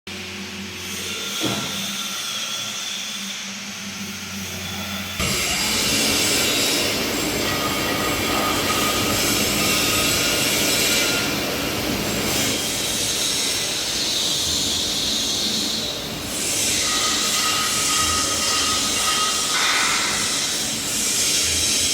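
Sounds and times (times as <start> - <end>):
cutting machine hiss and whine: 0.1 - 21.9.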